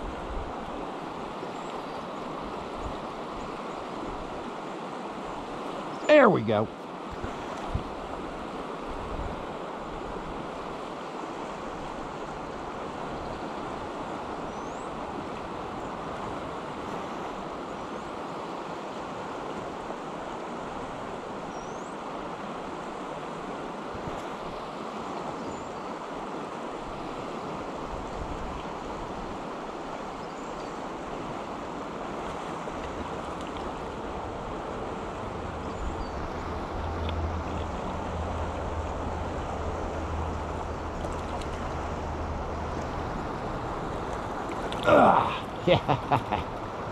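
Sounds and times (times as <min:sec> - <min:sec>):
river water flowing: 0:00.0 - 0:46.9.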